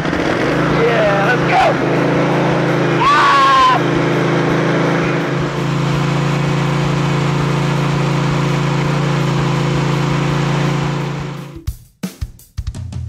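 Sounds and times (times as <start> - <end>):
lawn mower engine running: 0.0 - 11.7.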